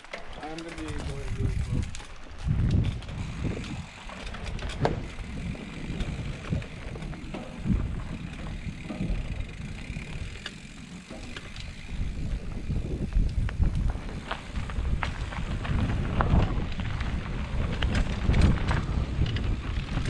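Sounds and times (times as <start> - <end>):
bike clicks and rattles: 0.0 - 20.0
bike tyre noise: 0.0 - 20.0
wind rumbling on microphone: 0.6 - 20.0.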